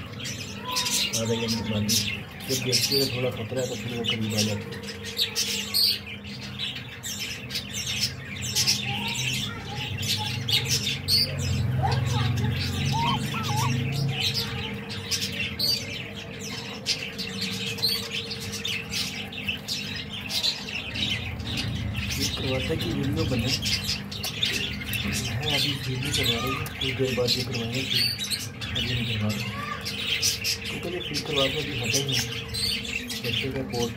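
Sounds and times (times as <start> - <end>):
cage birds chirping: 0.0 - 33.9.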